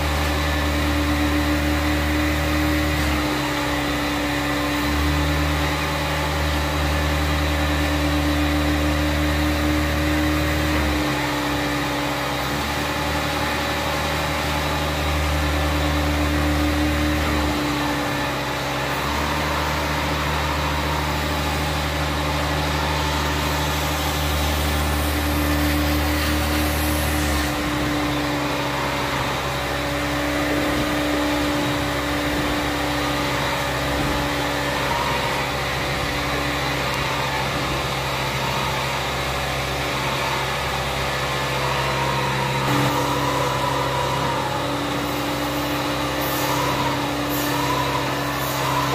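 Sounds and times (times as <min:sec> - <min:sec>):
carpet cleaner vacuum whine: 0:00.0 - 0:48.9.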